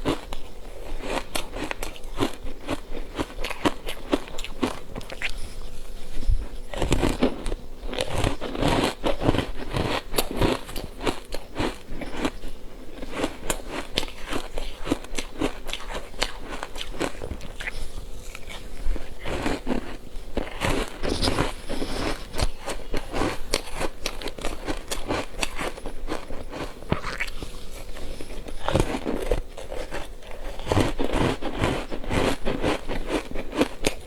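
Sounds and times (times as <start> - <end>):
ice crunching in mouth: 0.0 - 5.4, 6.4 - 34.0.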